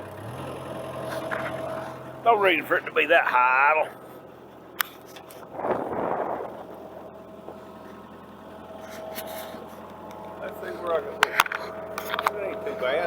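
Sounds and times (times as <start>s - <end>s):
excavator engine idling: 0.0s - 13.0s.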